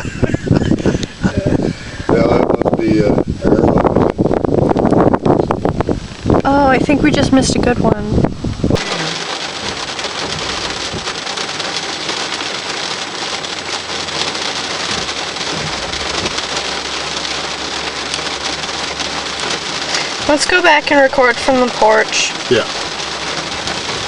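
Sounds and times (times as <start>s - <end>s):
low thunder rumble: 0.0s - 24.0s
steady rain falling: 0.0s - 24.0s.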